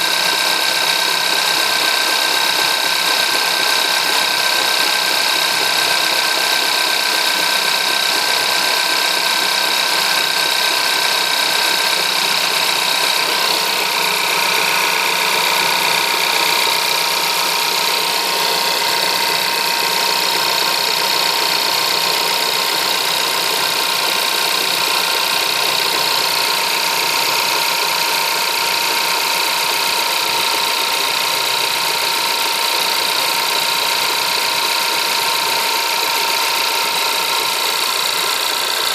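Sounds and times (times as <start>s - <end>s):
car engine idling: 0.0s - 38.9s
engine knock: 0.0s - 38.9s.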